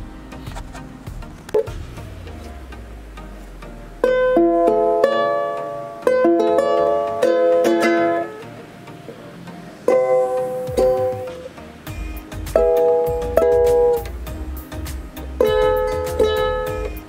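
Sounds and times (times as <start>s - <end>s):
ukulele plucked notes and chords: 0.0s - 17.0s.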